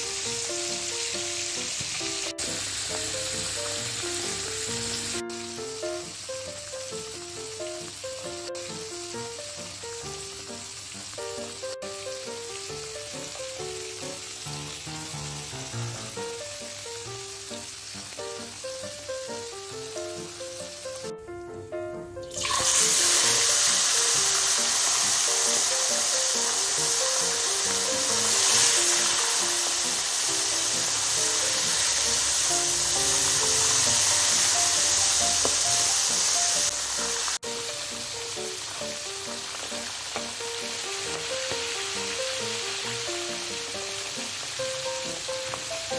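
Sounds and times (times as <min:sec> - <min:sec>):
fish sizzling in hot oil: 0:00.0 - 0:21.5, 0:22.2 - 0:45.9
light background music: 0:00.0 - 0:45.9.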